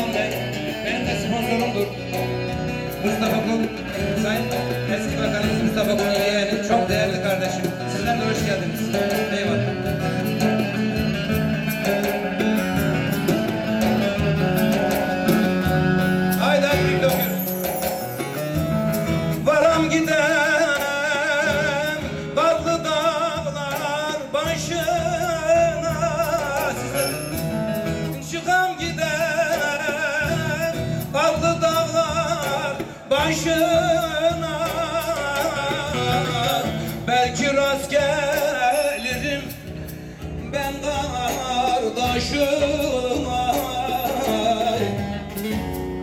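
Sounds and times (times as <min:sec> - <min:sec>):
long-necked lute playing: 0:00.0 - 0:46.0
man singing into a microphone: 0:00.0 - 0:46.0.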